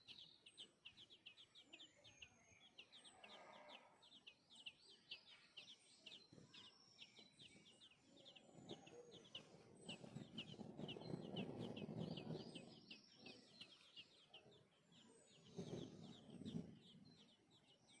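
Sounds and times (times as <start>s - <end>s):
baby birds chirping: 0.0s - 18.0s.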